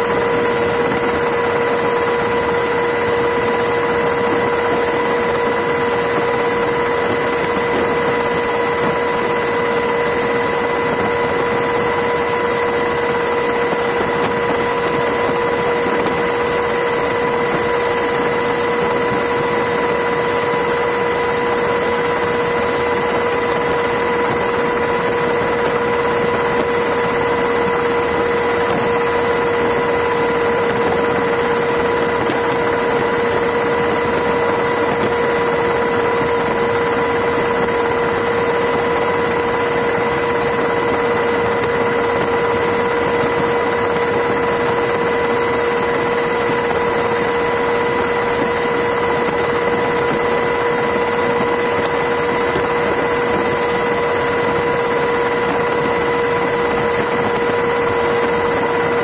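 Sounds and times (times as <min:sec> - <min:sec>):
helicopter engine drone: 0:00.0 - 0:59.0
steady whine: 0:00.0 - 0:59.0.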